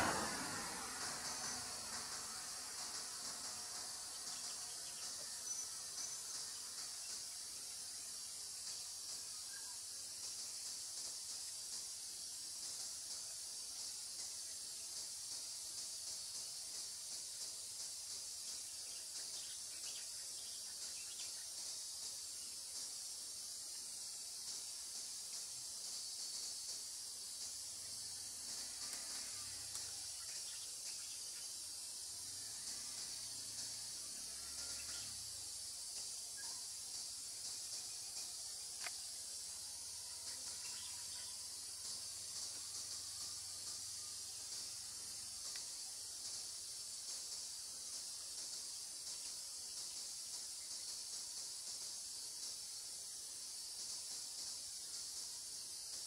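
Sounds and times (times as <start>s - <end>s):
insect chorus hissing: 0.0s - 56.0s.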